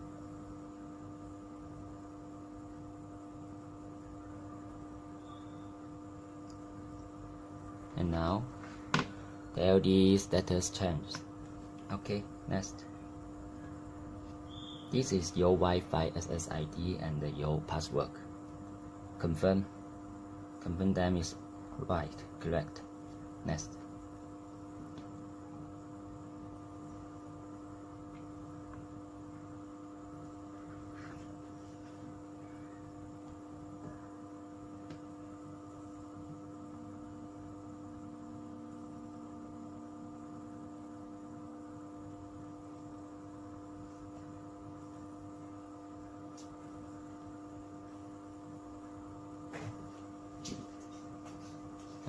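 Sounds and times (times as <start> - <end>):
electrical hum: 0.0 - 52.0.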